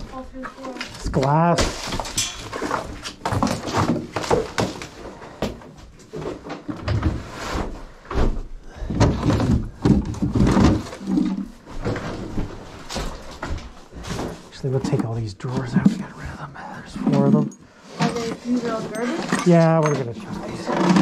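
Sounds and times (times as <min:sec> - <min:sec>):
furniture knocks and clatter: 0:00.0 - 0:16.0, 0:17.0 - 0:21.0.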